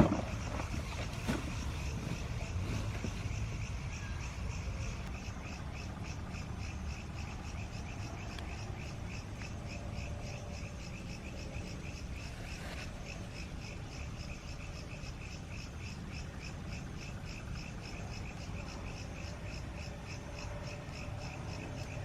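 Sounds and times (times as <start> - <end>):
crickets chirping: 0.0 - 22.0
low steady rumble: 0.0 - 22.0.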